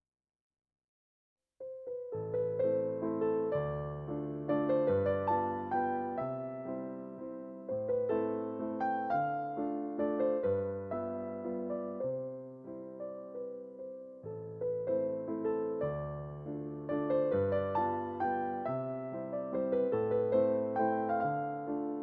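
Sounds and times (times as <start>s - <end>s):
solo piano tune: 1.6s - 22.0s.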